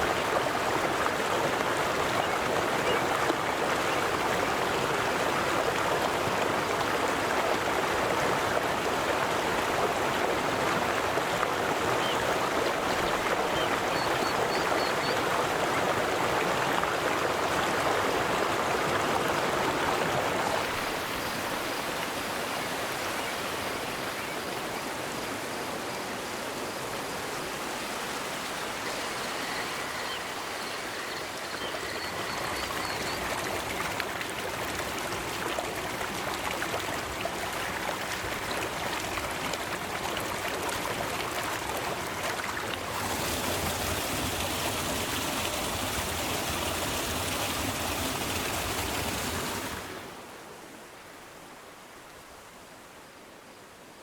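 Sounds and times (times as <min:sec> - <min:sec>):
river water rushing over stones: 0:00.0 - 0:51.1.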